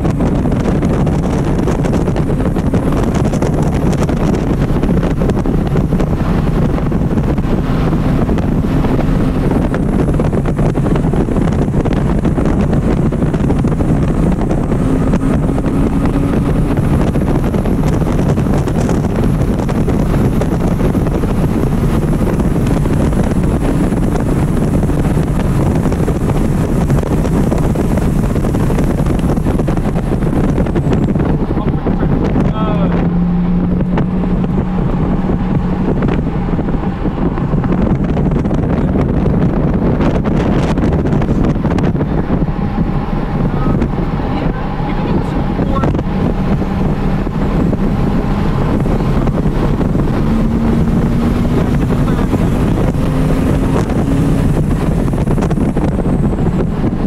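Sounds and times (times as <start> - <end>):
car engine at high revs: 0.0 - 57.0
wind and road noise: 0.0 - 57.0.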